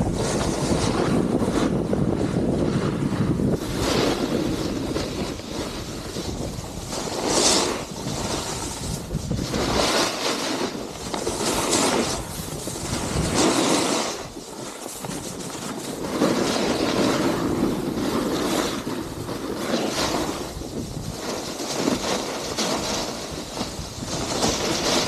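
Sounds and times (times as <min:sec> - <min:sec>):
snowboard scraping across snow: 0:00.0 - 0:25.0
wind rushing over microphone: 0:00.0 - 0:25.0.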